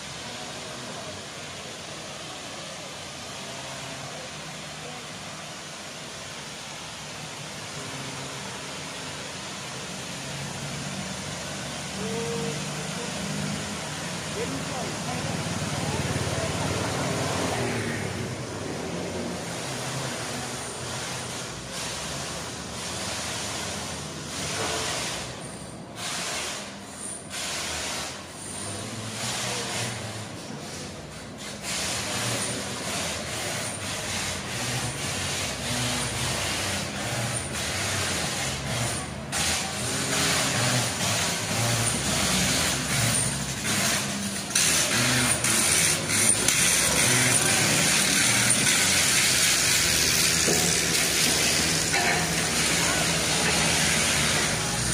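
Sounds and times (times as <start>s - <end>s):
construction machinery running: 0.0s - 54.9s
distant traffic hum: 0.0s - 54.9s.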